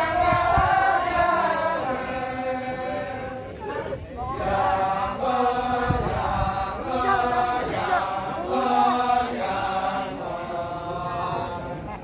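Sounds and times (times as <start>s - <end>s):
male chorus chanting: 0.0s - 12.0s.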